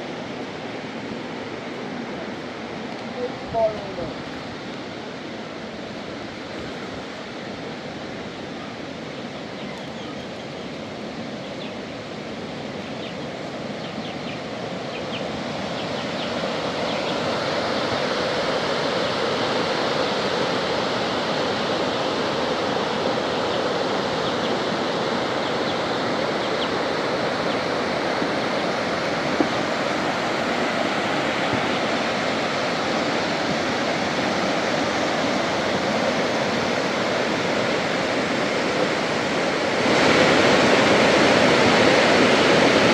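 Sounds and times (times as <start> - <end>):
water rushing in a storm: 0.0 - 42.9.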